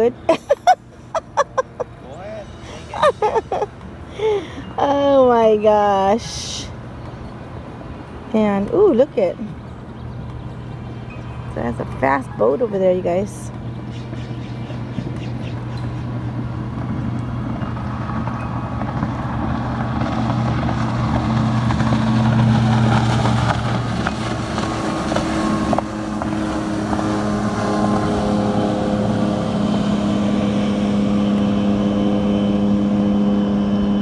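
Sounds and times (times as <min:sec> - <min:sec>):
motorboat engine droning: 0:00.0 - 0:34.0.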